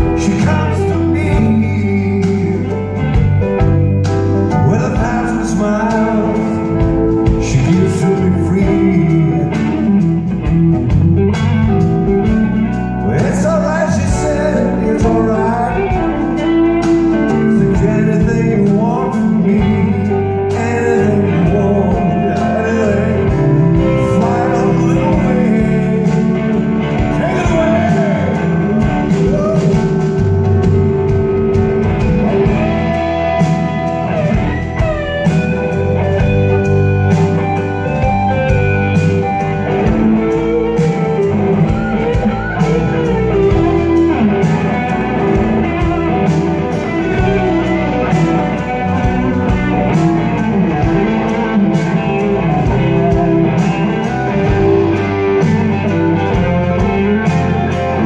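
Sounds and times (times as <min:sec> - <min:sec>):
electric guitar lead lines: 0:00.0 - 0:58.0
live blues-rock band: 0:00.0 - 0:58.0.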